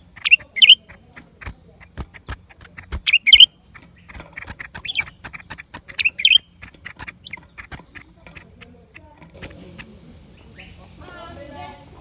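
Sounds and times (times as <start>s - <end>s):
bird clicking notes: 0.0s - 12.0s
bird squawky calls: 0.0s - 12.0s.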